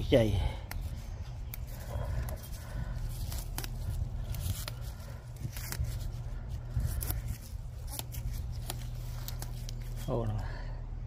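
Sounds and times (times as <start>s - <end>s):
leaves rustling: 0.0s - 10.7s
steady low rumble: 0.0s - 11.0s
plant stems snapping: 0.6s - 10.1s.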